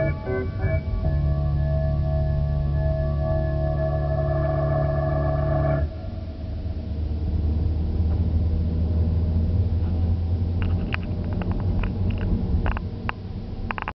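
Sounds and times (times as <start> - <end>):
car engine and tyres rumbling: 0.0 - 13.9.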